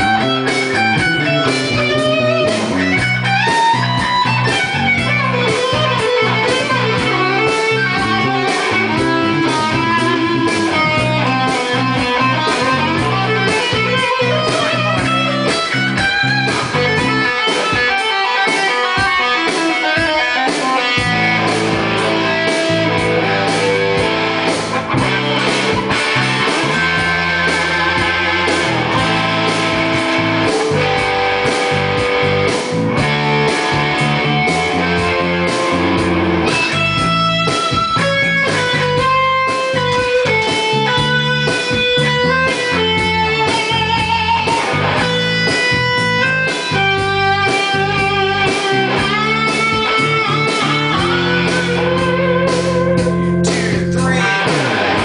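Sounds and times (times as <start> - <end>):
electric guitar solo: 0.0 - 55.0.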